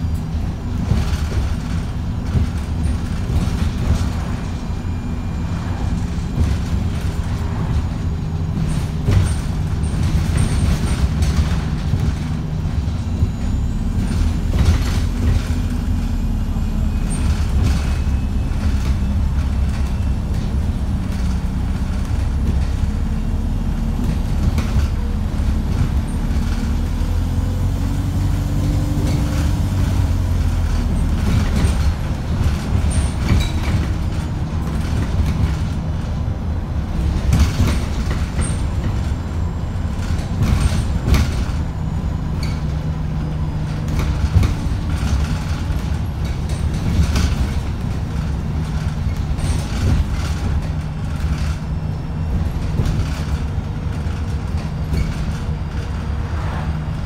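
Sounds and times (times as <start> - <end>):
bus body rattles and knocks: 0.0 - 57.0
bus engine drone: 0.0 - 57.0.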